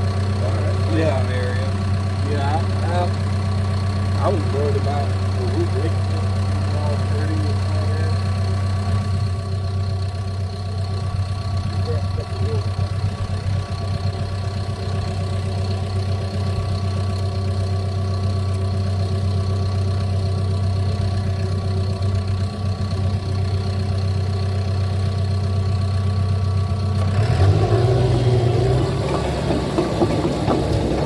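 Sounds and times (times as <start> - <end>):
diesel engine running: 0.0 - 31.0
rough engine clatter: 0.0 - 31.0.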